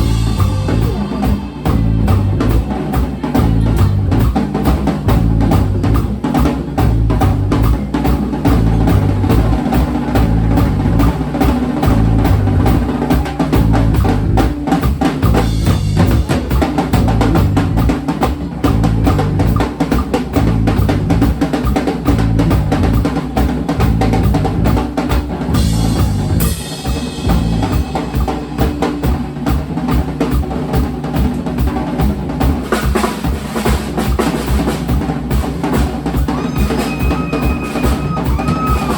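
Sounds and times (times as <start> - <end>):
bass line: 0.0 - 28.3, 35.7 - 38.9
bass drum and snare beat: 0.0 - 38.9.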